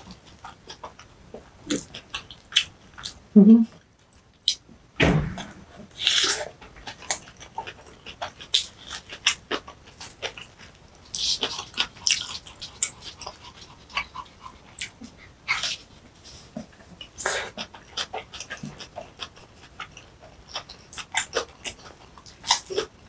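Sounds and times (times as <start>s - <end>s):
chewing with wet clicks: 0.0s - 3.2s, 3.9s - 4.6s, 6.6s - 15.8s, 16.6s - 23.0s.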